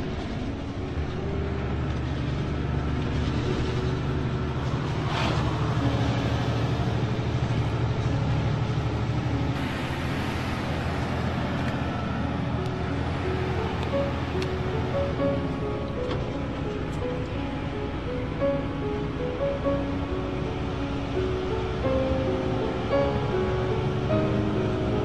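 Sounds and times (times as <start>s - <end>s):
diesel truck engine droning: 0.0s - 25.0s
road noise: 0.0s - 25.0s.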